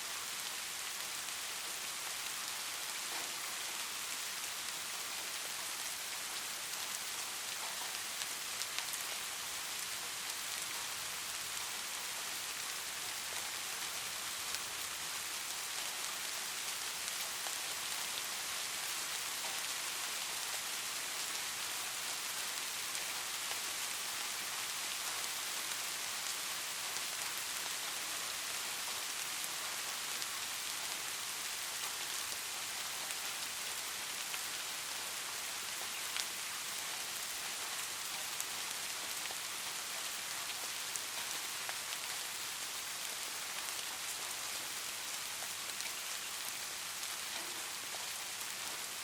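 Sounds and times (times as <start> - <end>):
light rain hiss: 0.0 - 49.0.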